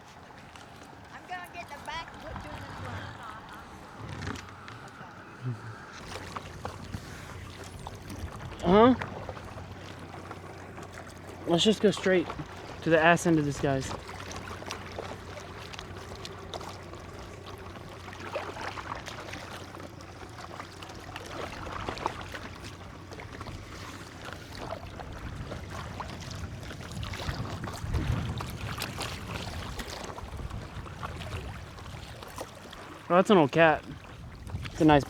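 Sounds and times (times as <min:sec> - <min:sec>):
paddle strokes and splashes: 0:00.0 - 0:35.0.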